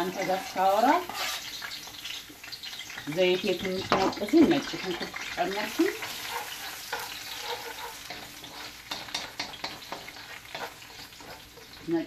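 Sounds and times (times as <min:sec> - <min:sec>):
wooden spoon scraping wok: 0:00.0 - 0:02.2, 0:02.9 - 0:12.0
garlic sizzling in oil: 0:00.0 - 0:12.0.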